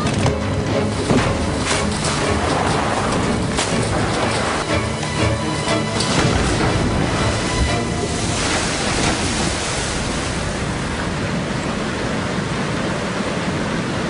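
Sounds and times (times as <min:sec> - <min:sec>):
loud steady rushing noise: 0:00.0 - 0:14.0.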